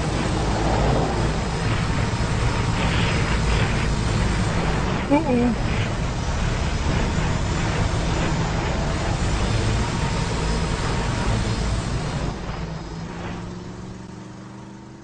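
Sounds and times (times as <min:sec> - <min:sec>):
road vehicle passing: 0:00.0 - 0:15.0.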